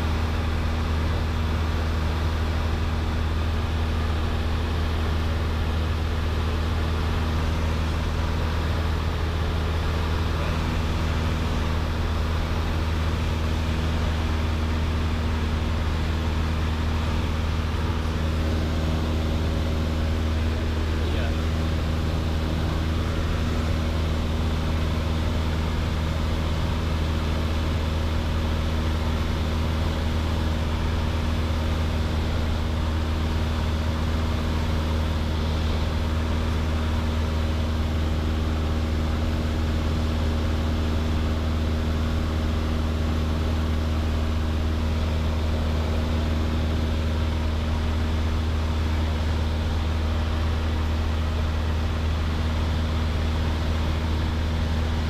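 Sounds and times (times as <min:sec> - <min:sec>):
airplane engine droning: 0:00.0 - 0:55.0.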